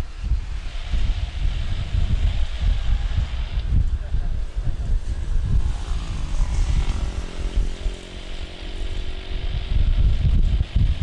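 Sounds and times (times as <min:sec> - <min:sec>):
jet engines running: 0:00.0 - 0:10.5
wind rumble on microphone: 0:00.0 - 0:11.0.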